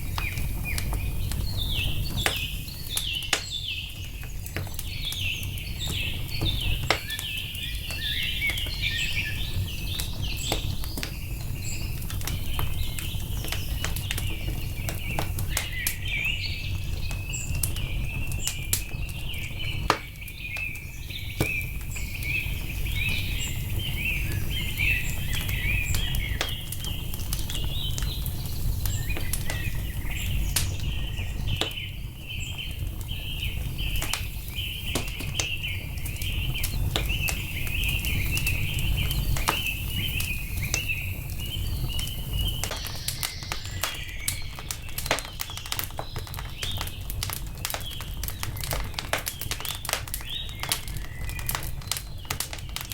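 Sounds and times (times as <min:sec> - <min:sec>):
small birds chirping: 0:00.0 - 0:52.9
wood fire crackling and popping: 0:00.0 - 0:52.9.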